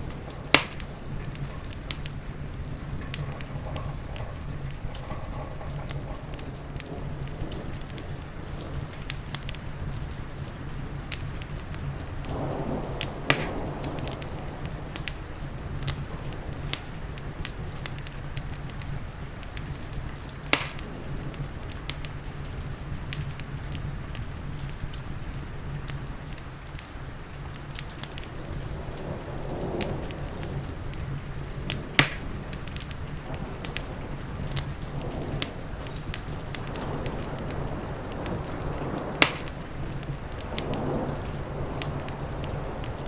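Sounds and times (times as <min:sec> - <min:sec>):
rain hissing: 0:00.0 - 0:43.0
wood fire crackling: 0:00.0 - 0:43.0.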